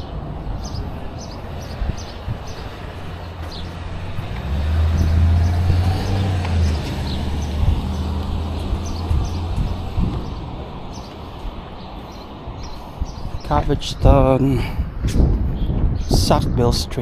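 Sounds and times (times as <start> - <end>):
small birds chirping: 0.0 - 14.6.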